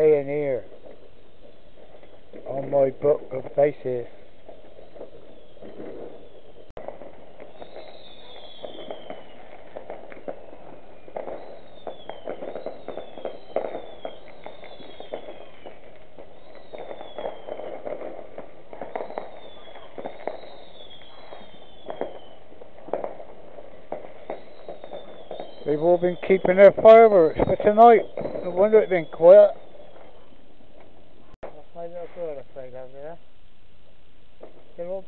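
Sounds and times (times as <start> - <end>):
fireworks bangs and pops: 0.0 - 33.2, 34.3 - 35.0
whistling fireworks: 0.0 - 33.2, 33.8 - 35.0.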